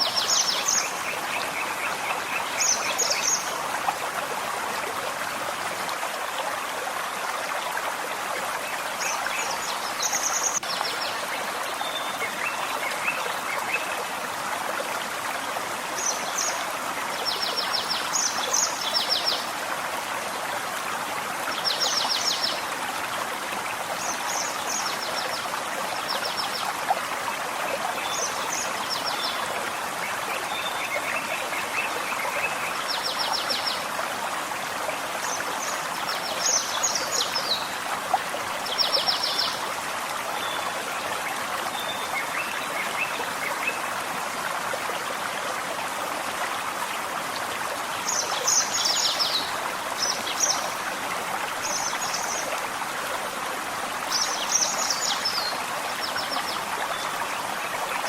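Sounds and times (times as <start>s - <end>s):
forest stream trickling: 0.0s - 58.0s.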